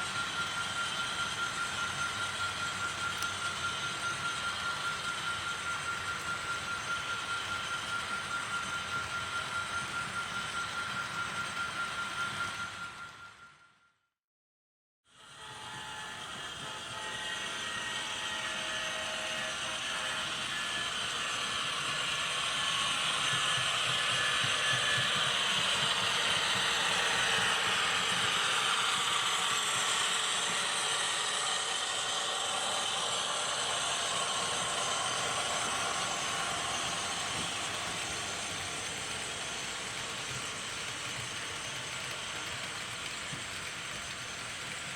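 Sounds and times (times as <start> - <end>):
train running: 0.0 - 13.6, 15.2 - 44.9.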